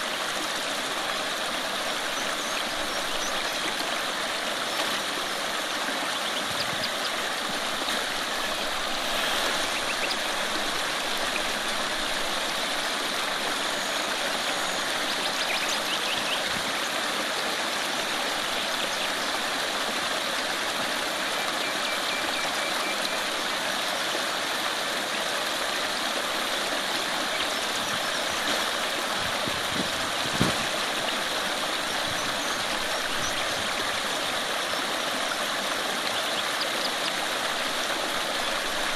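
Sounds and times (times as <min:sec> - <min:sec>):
babbling rocky stream: 0:00.0 - 0:38.9.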